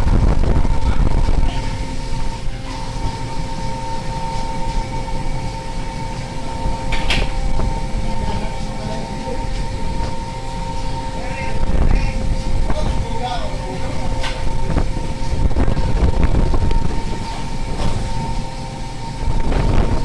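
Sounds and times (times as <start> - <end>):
machinery drone: 0.0 - 20.0.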